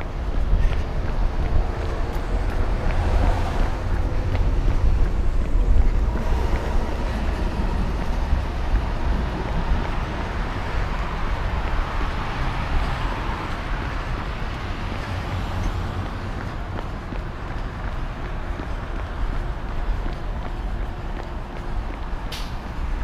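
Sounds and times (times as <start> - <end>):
city street traffic: 0.0 - 23.0
wind rumble on microphone: 0.0 - 23.0
car passing by: 0.6 - 23.0.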